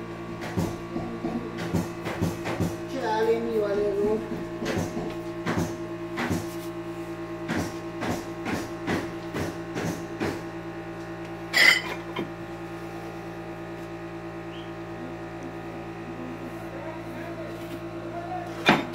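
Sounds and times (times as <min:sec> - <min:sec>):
steady hum: 0:00.0 - 0:18.9.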